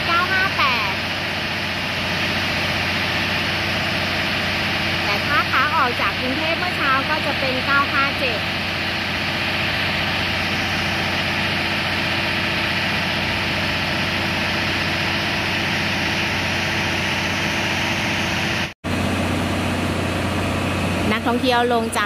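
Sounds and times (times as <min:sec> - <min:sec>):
diesel train idling: 0:00.0 - 0:22.0.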